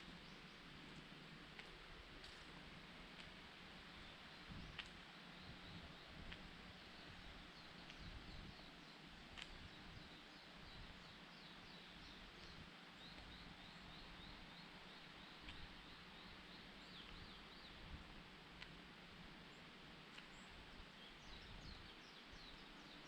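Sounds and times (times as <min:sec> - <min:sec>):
faint outdoor ambience: 0:00.0 - 0:23.0.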